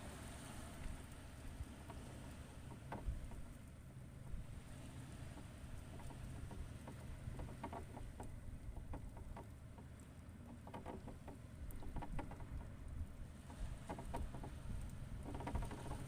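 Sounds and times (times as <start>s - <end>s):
wind rumble on microphone: 0.0s - 16.0s
faint irregular clicks and taps: 0.8s - 4.4s, 5.2s - 16.0s.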